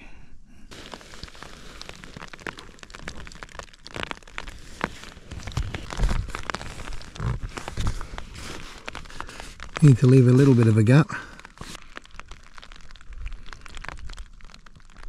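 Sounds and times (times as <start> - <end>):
rain pattering on tent fabric: 0.7 - 15.0.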